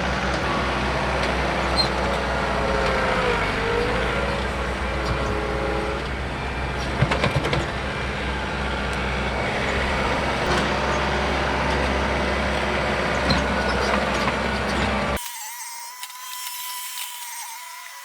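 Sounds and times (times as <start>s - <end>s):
heavy diesel machinery running: 0.0s - 15.2s.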